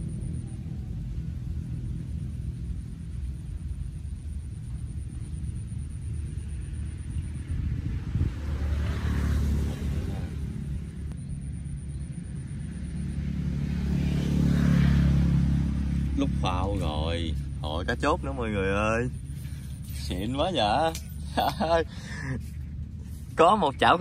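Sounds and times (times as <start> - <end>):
motor engine passing: 0.0 - 24.0.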